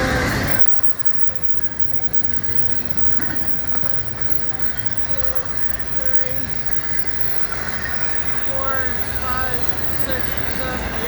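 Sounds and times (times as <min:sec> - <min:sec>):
freight train wheels rumbling: 0:00.0 - 0:11.0
train wheel squeals: 0:00.0 - 0:11.0.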